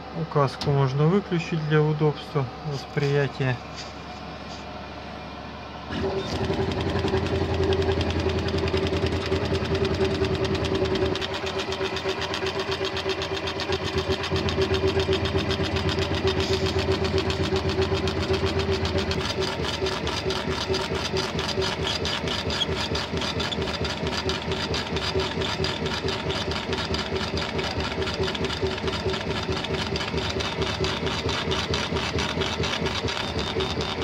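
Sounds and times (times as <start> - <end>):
steady machine hum: 0.0 - 34.0
laser engraver motors whirring: 5.9 - 34.0.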